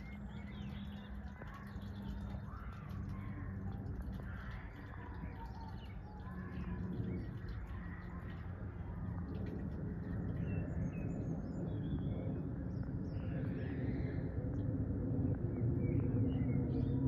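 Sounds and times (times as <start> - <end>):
birds chirping: 0.0 - 17.0
distant jet airliner rumble: 0.0 - 17.0.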